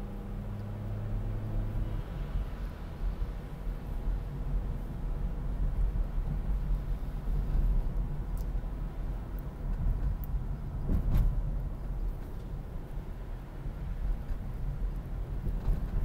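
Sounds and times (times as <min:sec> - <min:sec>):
car rumble on wet road: 0:00.0 - 0:16.0.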